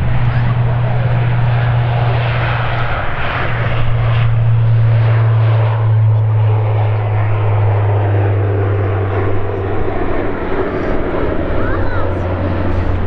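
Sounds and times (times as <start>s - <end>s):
broad rushing noise: 0.0s - 13.0s
jet engines droning: 0.0s - 13.0s.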